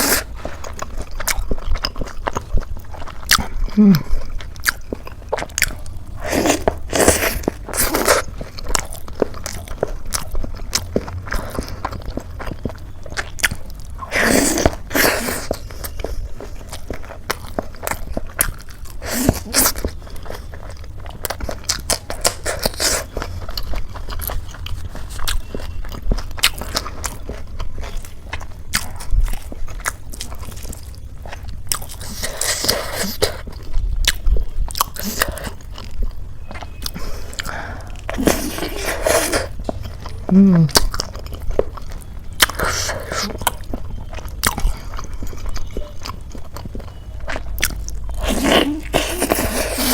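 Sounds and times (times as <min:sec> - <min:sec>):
crunchy food chewing: 0:00.0 - 0:49.9.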